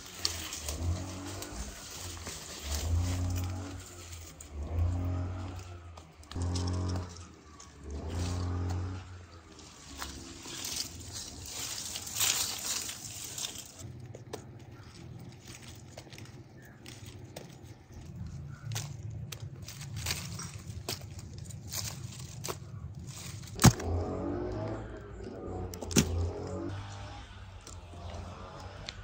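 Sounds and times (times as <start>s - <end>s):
rustling: 0.0s - 26.8s.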